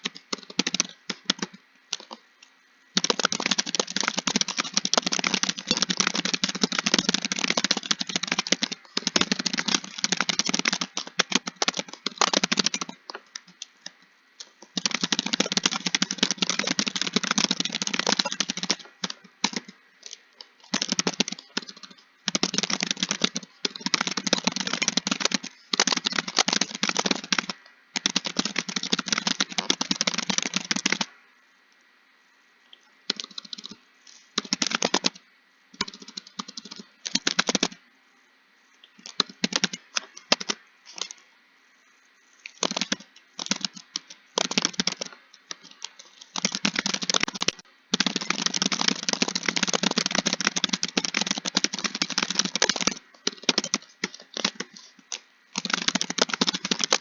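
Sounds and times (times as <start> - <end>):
fast typing on keyboard: 0.0 - 2.2, 3.0 - 31.1, 33.1 - 33.8, 34.4 - 35.2, 35.8 - 37.8, 39.0 - 41.2, 42.4 - 57.0.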